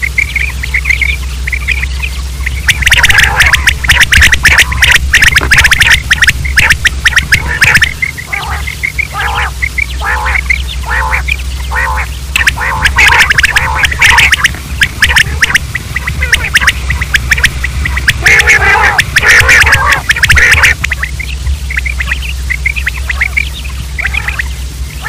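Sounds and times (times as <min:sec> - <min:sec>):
quail calling: 0:00.0 - 0:25.0
steady low hum: 0:00.0 - 0:25.0.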